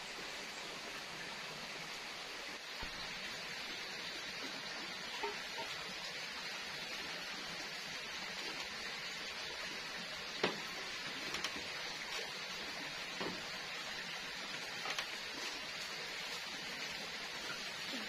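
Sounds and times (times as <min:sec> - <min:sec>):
wood fire hissing: 0:00.0 - 0:18.0.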